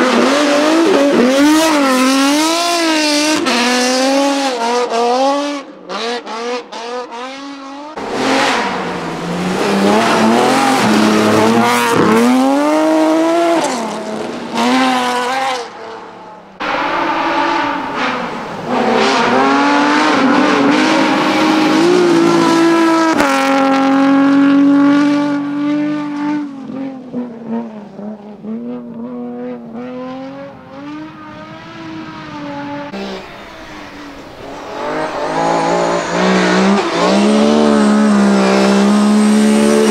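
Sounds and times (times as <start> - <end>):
rally car engines revving hard: 0.0 - 39.9.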